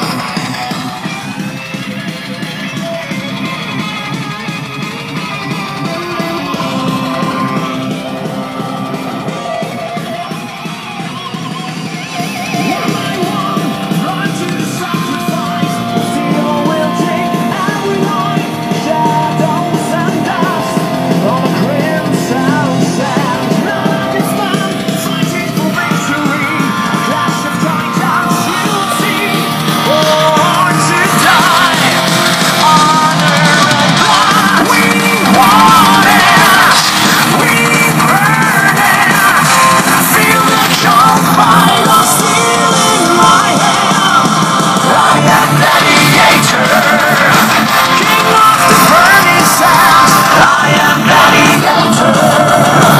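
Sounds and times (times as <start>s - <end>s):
song with singing and guitar: 0.0s - 52.9s.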